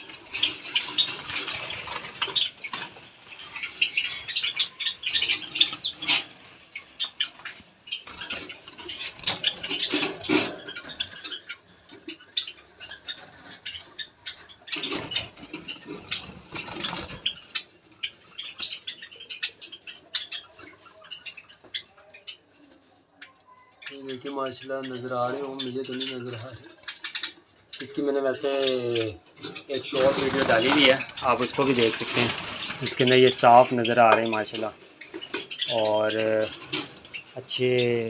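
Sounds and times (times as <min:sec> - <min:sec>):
small birds chirping and squeaking: 0:00.0 - 0:38.0.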